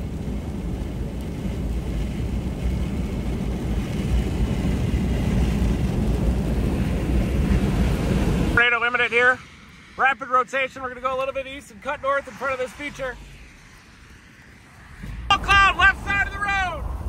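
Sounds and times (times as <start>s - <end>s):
vehicle road rumble: 0.0s - 17.0s.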